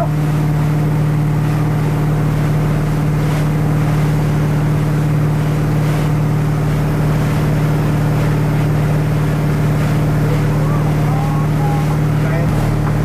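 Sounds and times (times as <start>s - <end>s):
motorboat engine droning: 0.0s - 13.0s
water rushing: 0.0s - 13.0s
wind: 0.0s - 13.0s.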